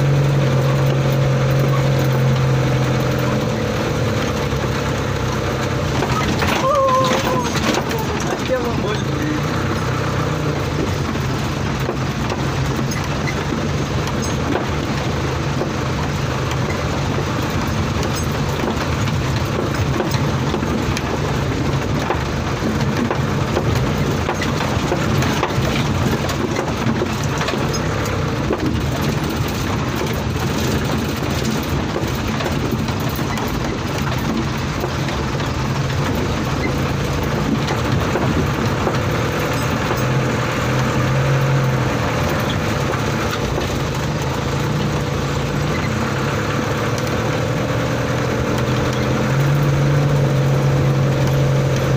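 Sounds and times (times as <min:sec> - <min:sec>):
truck body rattling: 0:00.0 - 0:51.9
truck engine running: 0:00.0 - 0:51.9.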